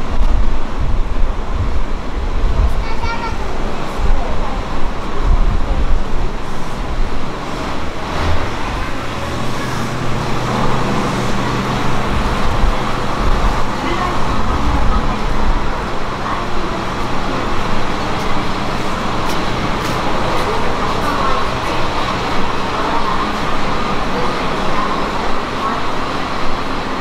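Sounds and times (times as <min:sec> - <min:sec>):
constant background noise: 0:00.0 - 0:27.0
electric train hum: 0:00.0 - 0:27.0
low rumbles: 0:00.0 - 0:27.0.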